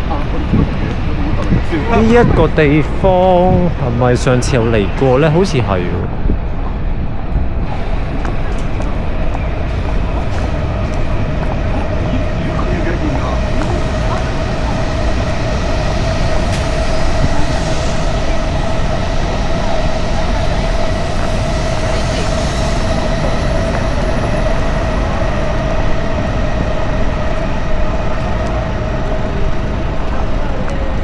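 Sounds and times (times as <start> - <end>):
subway train rumble and whine: 0.0 - 31.0.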